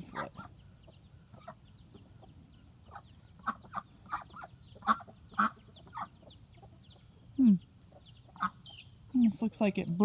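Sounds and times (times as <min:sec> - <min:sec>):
chickens clucking: 0:00.0 - 0:09.1.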